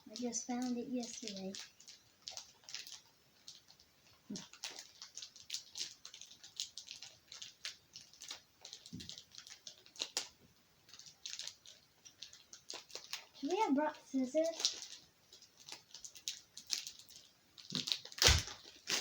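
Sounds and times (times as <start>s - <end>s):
foil wrapper crinkling: 0.1s - 19.0s.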